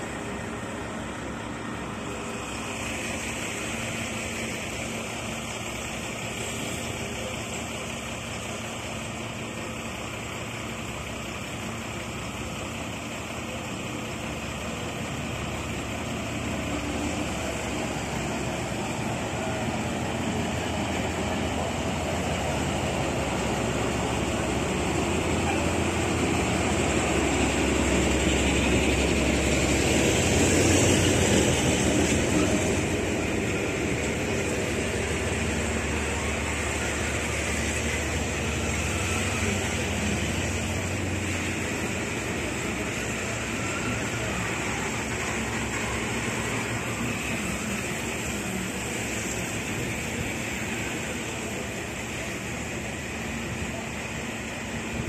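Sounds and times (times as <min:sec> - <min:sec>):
diesel locomotive engine approaching: 0:00.0 - 0:55.0.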